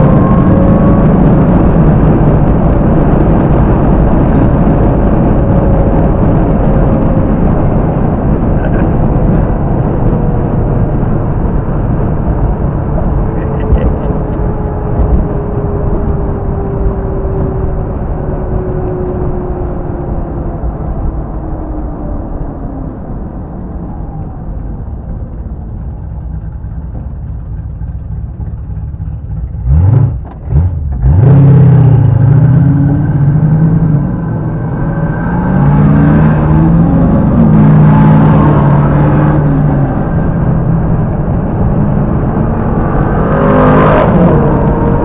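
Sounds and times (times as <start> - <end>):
car engine revving and accelerating: 0.0 - 25.4, 28.1 - 45.0.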